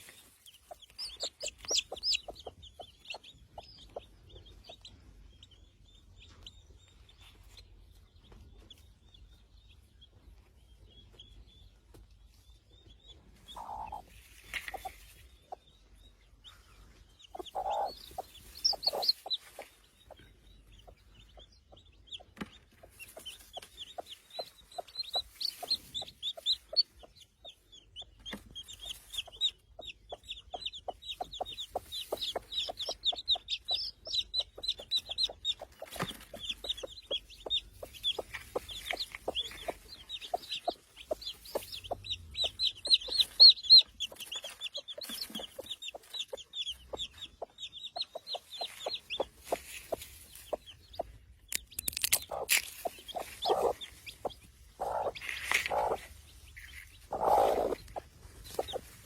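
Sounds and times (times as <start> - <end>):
hen clucking softly: 0.0 - 5.0, 13.4 - 15.6, 16.5 - 51.1, 52.2 - 59.0
chicks peeping: 0.0 - 59.0.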